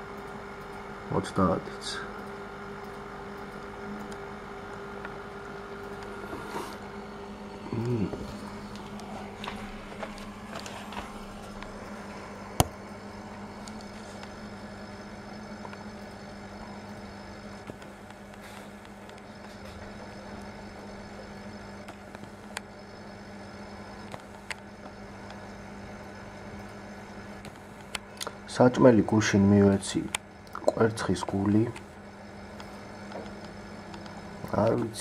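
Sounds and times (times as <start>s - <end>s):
air pump humming: 0.0s - 35.0s.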